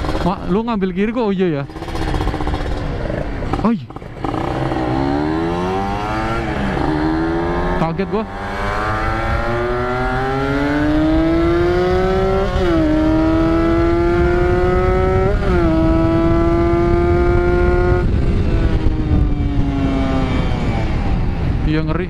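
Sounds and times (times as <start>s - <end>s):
two-stroke motorcycle engine accelerating: 0.0s - 0.8s, 1.6s - 21.2s
wind rumble on microphone: 4.2s - 22.0s.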